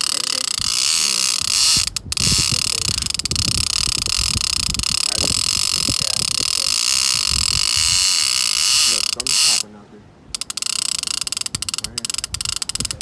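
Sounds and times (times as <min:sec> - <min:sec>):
fishing reel drag buzzing: 0:00.0 - 0:09.6, 0:10.3 - 0:13.0
wind buffeting microphone: 0:00.0 - 0:13.0.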